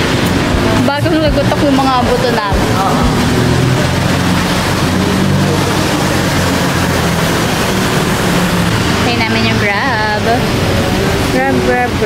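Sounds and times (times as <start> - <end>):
loud background din: 0.0 - 12.0.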